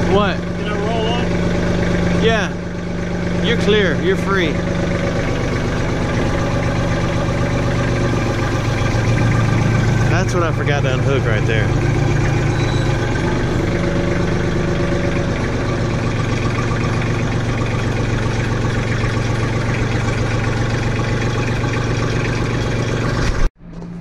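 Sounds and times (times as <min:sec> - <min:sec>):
tractor engine running steadily: 0:00.0 - 0:24.0.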